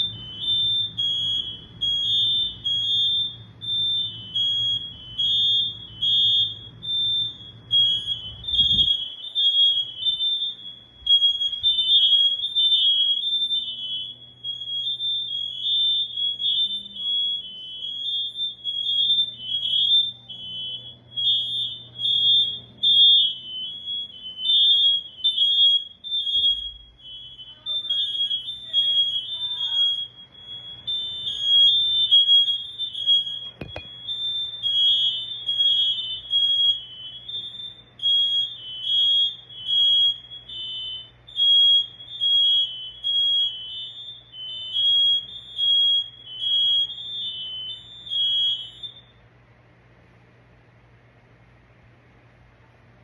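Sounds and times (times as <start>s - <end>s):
smoke alarms beeping: 0.0s - 49.2s.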